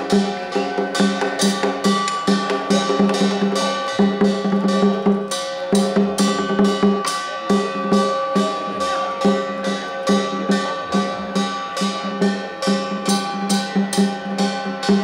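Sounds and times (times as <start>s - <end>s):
drum strokes: 0.0s - 15.0s.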